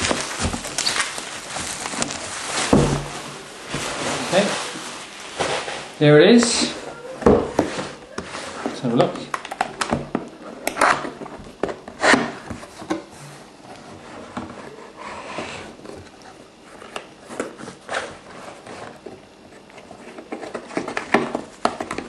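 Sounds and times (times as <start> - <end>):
cardboard and paper rustling: 0.0 - 22.0.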